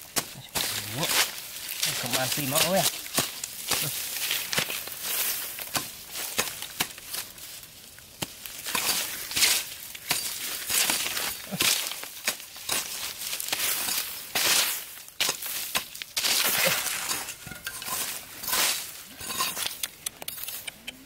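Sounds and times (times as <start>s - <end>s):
machete chopping into dry soil: 0.0s - 7.3s, 8.1s - 20.8s.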